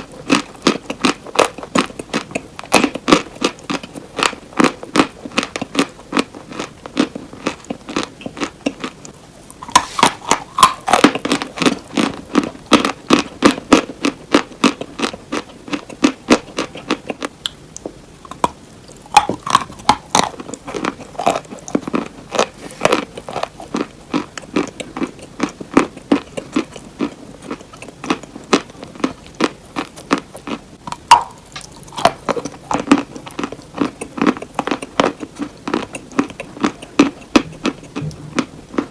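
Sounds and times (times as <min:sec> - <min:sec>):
crunching and chewing cheese: 0:00.0 - 0:38.9.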